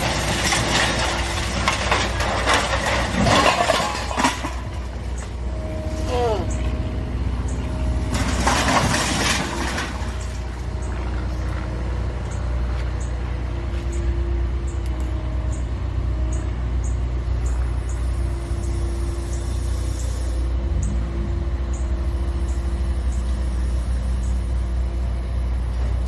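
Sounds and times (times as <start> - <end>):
low vehicle rumble: 0.0 - 26.0.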